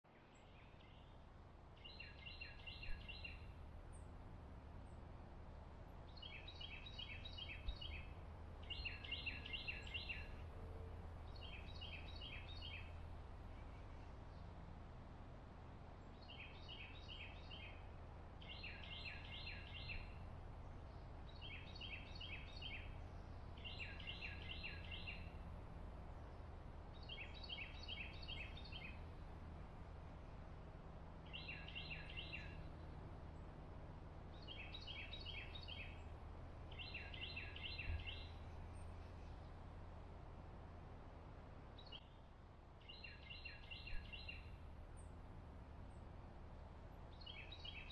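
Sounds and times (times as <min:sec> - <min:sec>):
songbird singing: 0:00.0 - 0:47.9
low background hum: 0:00.1 - 0:47.9.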